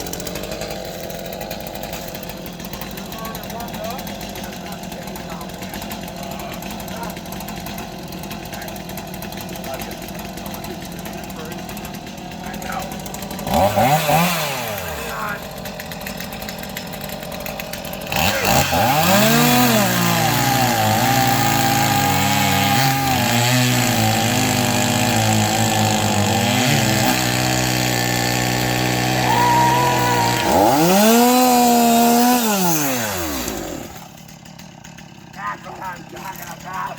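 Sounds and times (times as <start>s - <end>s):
chainsaw cutting through log: 0.0s - 36.9s.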